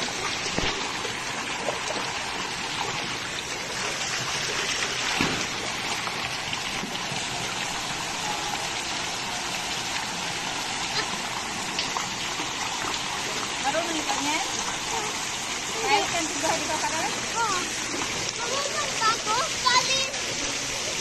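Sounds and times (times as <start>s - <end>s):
children splashing water: 0.0s - 21.0s
water rushing in pool: 0.0s - 21.0s.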